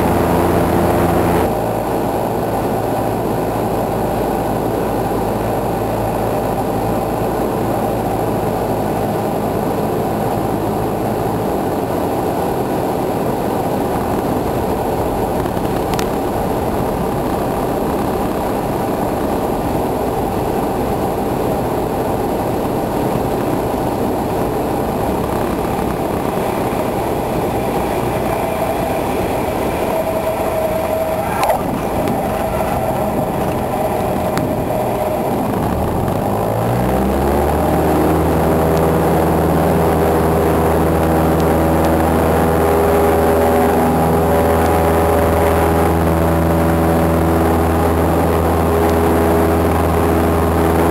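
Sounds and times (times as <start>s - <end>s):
wind rush: 0.0s - 48.1s
airplane engine and propeller: 0.0s - 50.9s.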